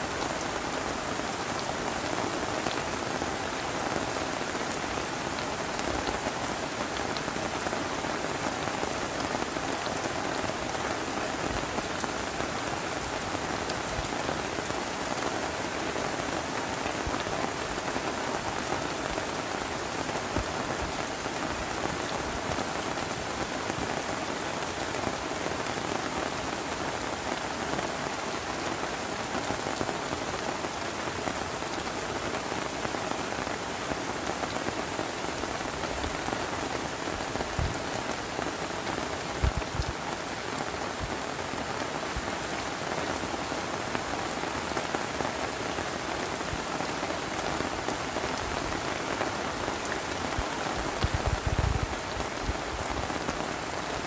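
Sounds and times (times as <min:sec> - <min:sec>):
heavy rain on tent tarp: 0:00.0 - 0:54.0.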